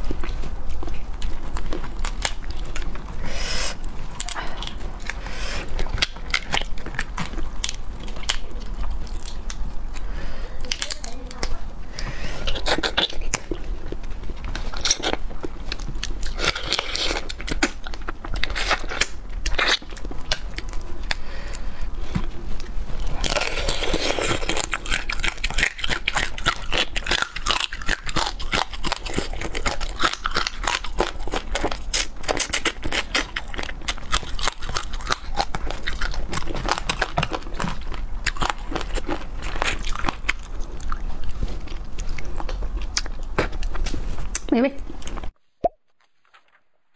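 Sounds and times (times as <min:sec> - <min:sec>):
crunching and chewing crab shells: 0:00.0 - 0:45.4.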